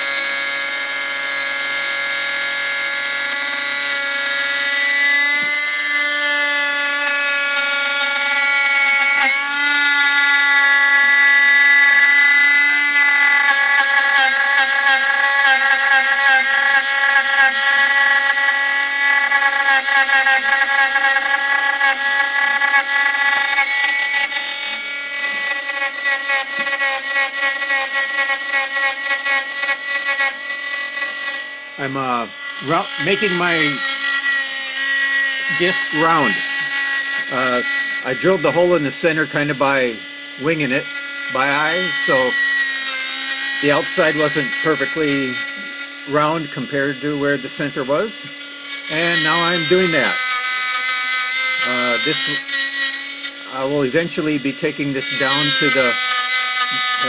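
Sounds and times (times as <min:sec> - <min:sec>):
spindle motor whining: 0:00.0 - 0:57.0.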